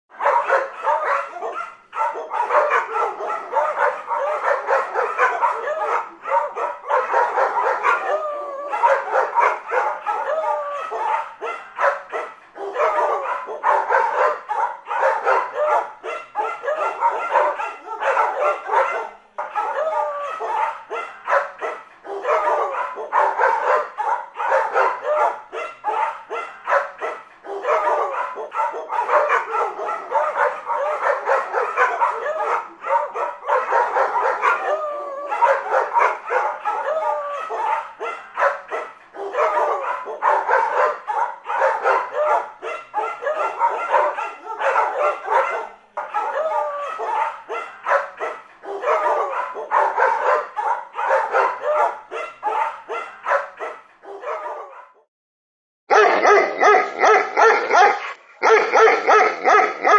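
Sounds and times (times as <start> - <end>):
dog barking and yapping: 0.1 - 55.1, 55.9 - 59.9.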